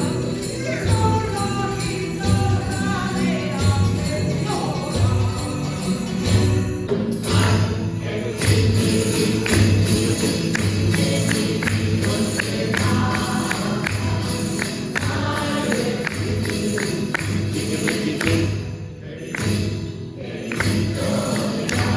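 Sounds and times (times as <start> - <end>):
jingling bells: 0.0 - 21.9
tambourine: 0.0 - 21.9
voices singing: 0.0 - 21.9.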